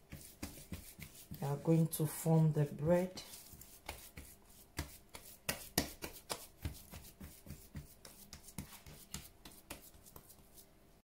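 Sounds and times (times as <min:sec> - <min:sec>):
hands patting meat mixture: 0:00.0 - 0:01.6, 0:03.3 - 0:10.7.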